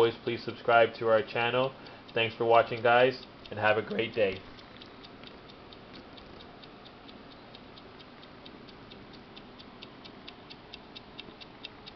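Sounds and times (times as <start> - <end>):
wind-up timer ticking: 0.0 - 11.9.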